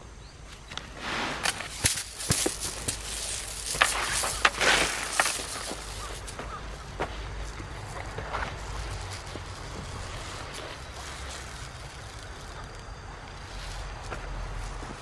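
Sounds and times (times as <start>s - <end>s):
footsteps crunching on dry soil: 0.4s - 15.0s.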